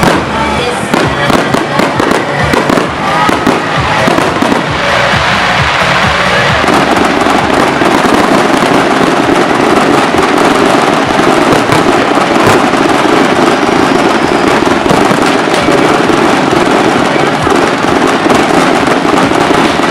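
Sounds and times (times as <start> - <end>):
firecrackers crackling: 0.0 - 19.9
sharp firecracker bang: 0.0 - 19.9.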